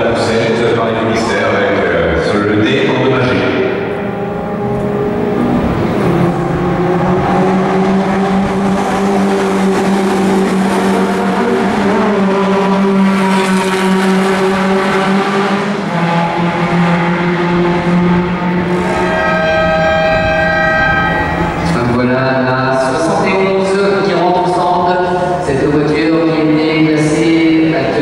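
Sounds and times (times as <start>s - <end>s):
race car engines running hard: 0.0s - 28.0s.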